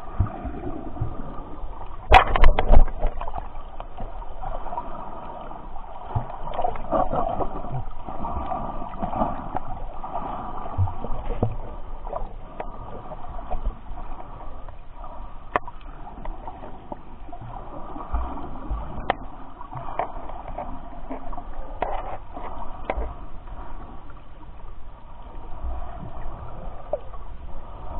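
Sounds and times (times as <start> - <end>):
underwater sloshing and gurgling: 0.0 - 27.9.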